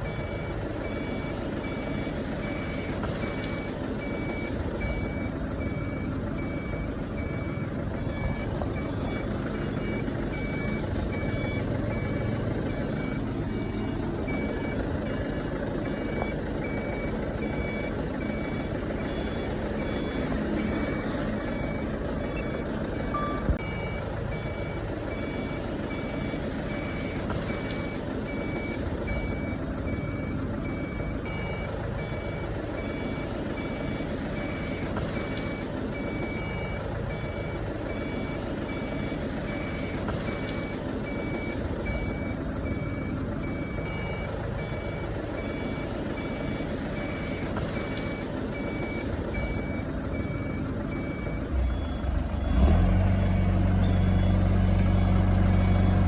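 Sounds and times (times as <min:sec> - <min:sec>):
backup alarm beeping: 0:00.0 - 0:56.0
diesel engine running: 0:00.0 - 0:56.0.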